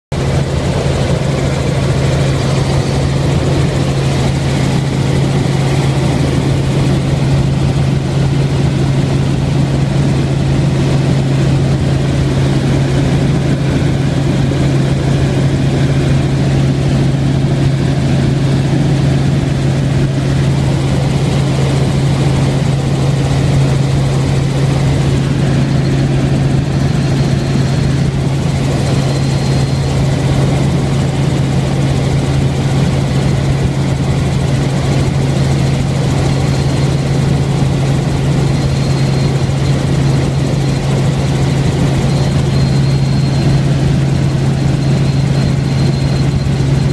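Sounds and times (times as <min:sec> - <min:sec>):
helicopter rotor and engine drone: 0:00.1 - 0:46.9.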